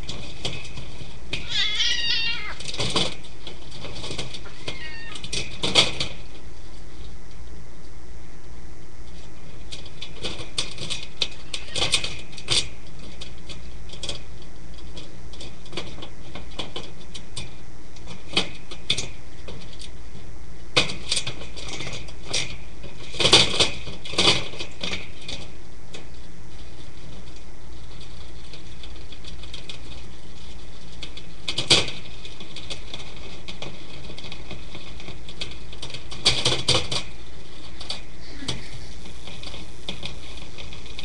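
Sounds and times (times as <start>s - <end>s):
rat pups clicking and rustling: 0.0s - 41.0s
steady hiss: 0.0s - 41.0s.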